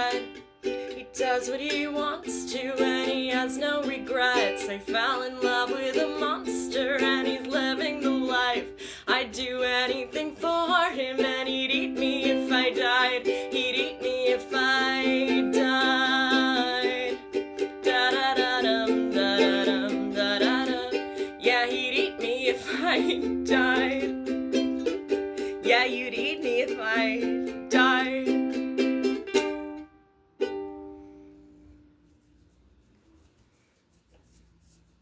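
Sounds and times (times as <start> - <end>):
ukulele strumming chords: 0.0 - 31.9.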